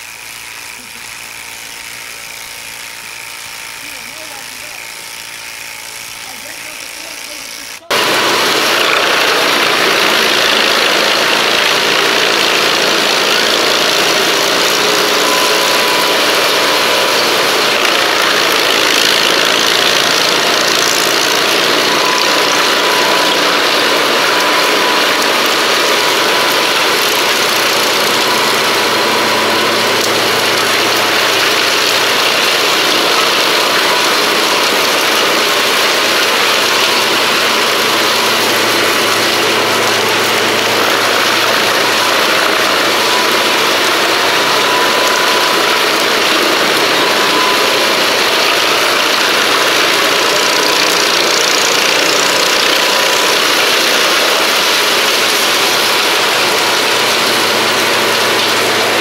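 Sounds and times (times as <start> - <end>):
wood chipper running: 0.0 - 59.0.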